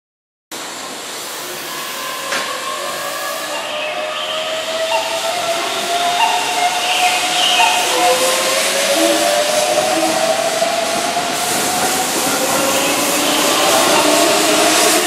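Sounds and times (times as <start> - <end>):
electric train pulling away: 0.6 - 15.0.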